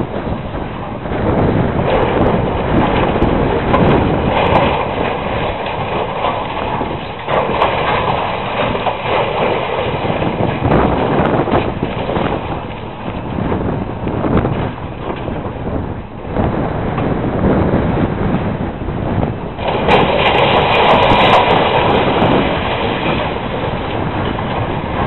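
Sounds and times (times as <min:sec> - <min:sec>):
concrete crunching and crashing: 0:00.0 - 0:17.2, 0:19.1 - 0:25.0
excavator engines under load: 0:00.0 - 0:25.0
wind buffeting microphone: 0:00.0 - 0:25.0
falling debris: 0:01.2 - 0:15.8, 0:19.3 - 0:25.0.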